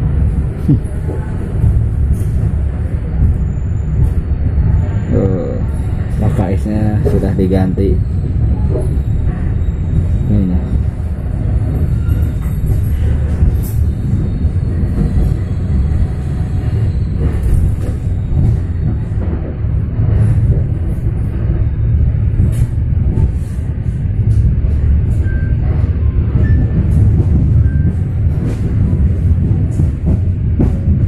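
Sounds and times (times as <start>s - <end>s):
train rumble from inside: 0.0s - 31.0s.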